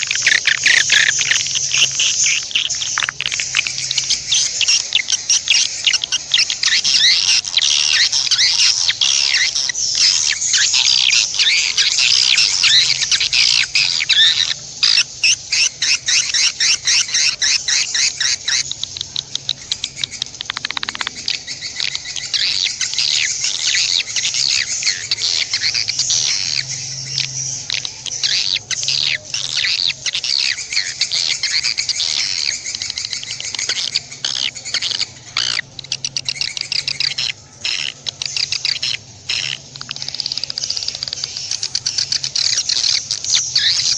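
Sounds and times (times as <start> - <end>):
songbird chirping and twittering: 0.0 - 43.9.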